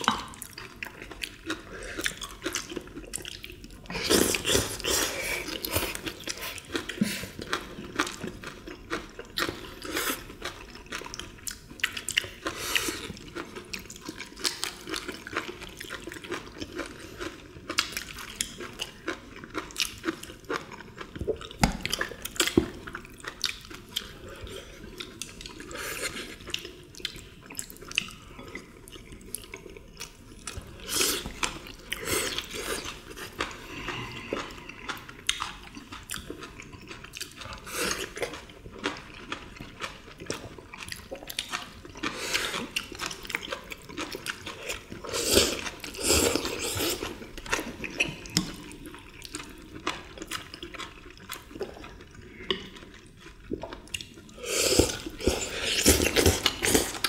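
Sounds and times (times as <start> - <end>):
wet chewing and slurping: 0.0 - 57.0.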